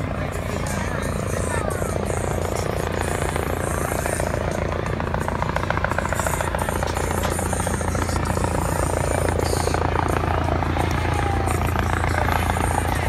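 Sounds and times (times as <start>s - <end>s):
helicopter rotor beating: 0.0s - 13.0s
low engine hum: 0.0s - 13.0s.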